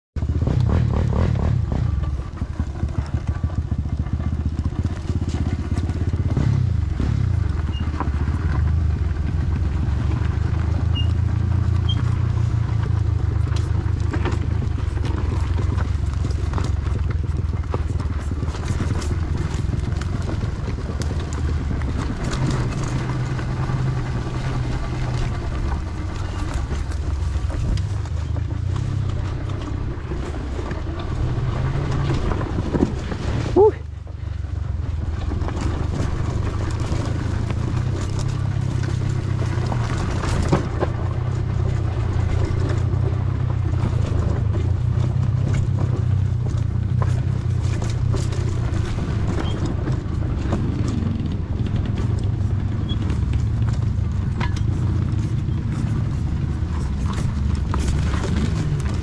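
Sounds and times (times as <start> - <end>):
bike knocks and rattles: 0.2 - 33.7, 35.0 - 59.0
two-stroke motorcycle engine: 0.2 - 59.0.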